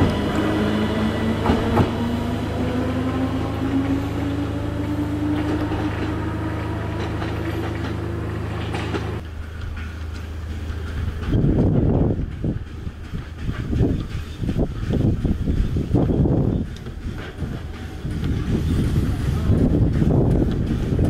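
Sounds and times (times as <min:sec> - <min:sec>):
electric train motor hum and whine: 0:00.0 - 0:21.0.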